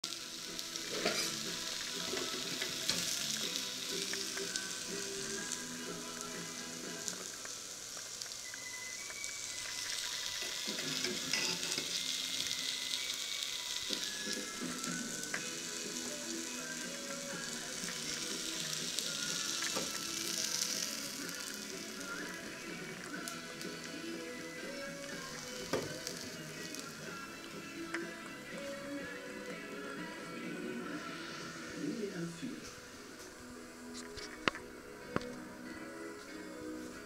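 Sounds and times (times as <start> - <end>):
meat sizzling on grill pan: 0.0 - 35.4.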